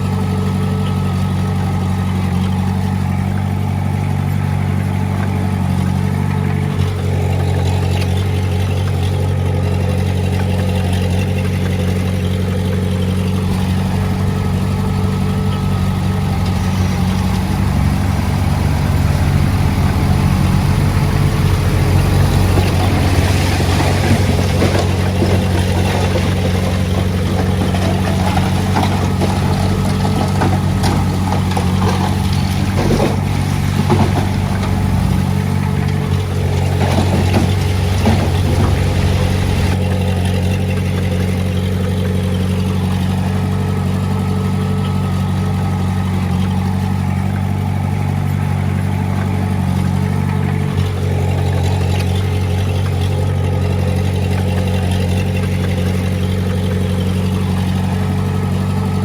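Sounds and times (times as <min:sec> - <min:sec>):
diesel engine running: 0:00.0 - 0:59.0
engine clatter and rumble: 0:00.0 - 0:59.0.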